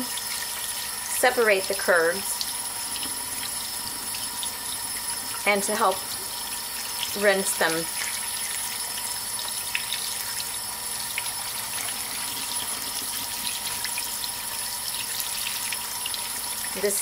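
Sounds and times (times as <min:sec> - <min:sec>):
faucet running water: 0:00.0 - 0:17.0.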